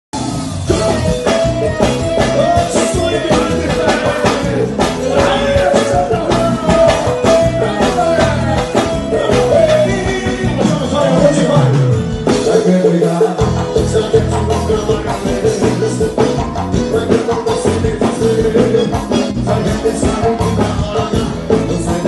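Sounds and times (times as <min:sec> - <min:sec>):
band music through loudspeakers: 0:00.2 - 0:22.0
person singing: 0:00.7 - 0:22.0.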